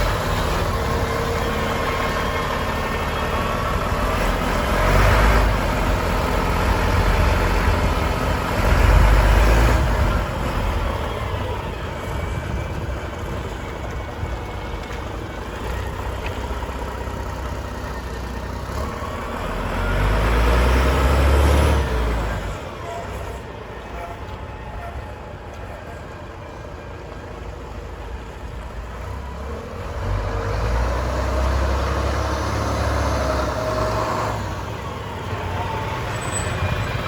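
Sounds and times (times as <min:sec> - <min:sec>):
fire truck diesel engine running: 0:00.0 - 0:37.0.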